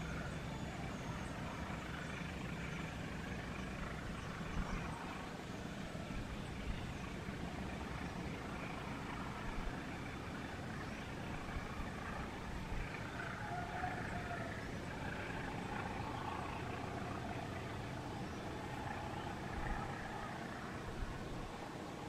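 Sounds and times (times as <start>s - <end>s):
faint diesel locomotive: 0.0s - 22.0s.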